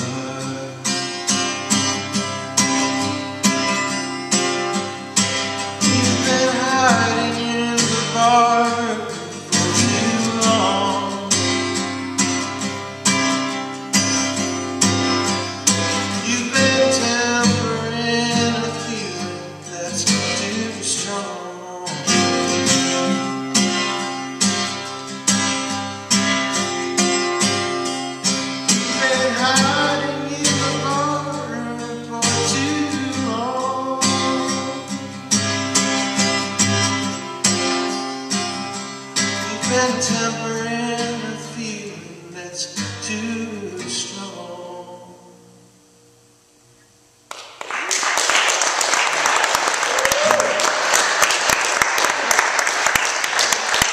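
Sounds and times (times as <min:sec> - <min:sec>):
acoustic guitar strummed and picked: 0:00.0 - 0:53.9.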